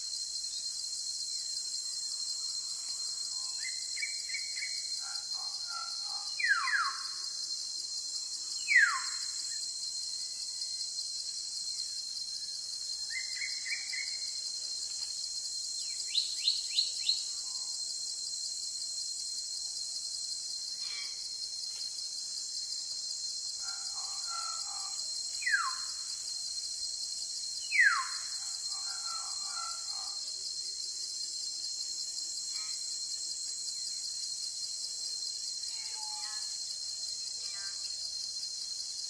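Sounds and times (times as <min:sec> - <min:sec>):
high insect drone: 0:00.0 - 0:39.0.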